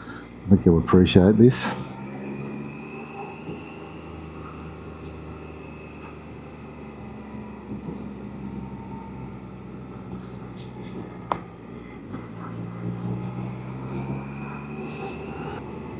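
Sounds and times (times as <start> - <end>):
faint high whine: 0.0 - 15.9
three-wheeler engine cruising: 0.0 - 15.9.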